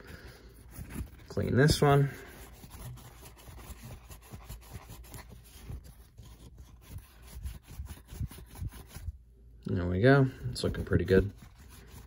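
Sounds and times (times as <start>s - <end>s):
faint rubbing strokes: 0.0s - 9.2s, 10.2s - 12.0s.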